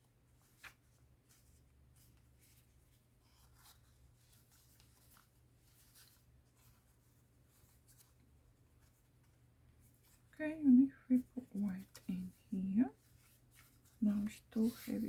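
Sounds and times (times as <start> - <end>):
low steady hum: 0.0 - 15.0
paper rustling: 0.1 - 10.3, 11.1 - 15.0.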